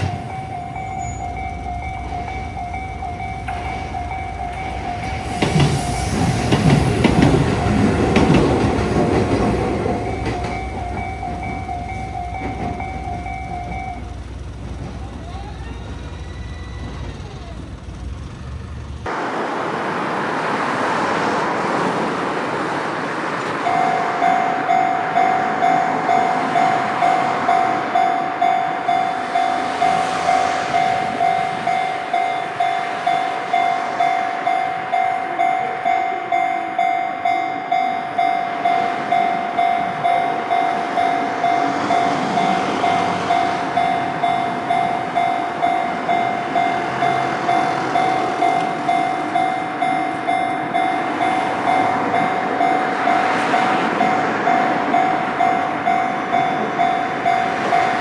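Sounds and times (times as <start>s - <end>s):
level-crossing alarm bell dinging: 0.0s - 18.9s, 23.6s - 58.0s
train running: 0.0s - 58.0s.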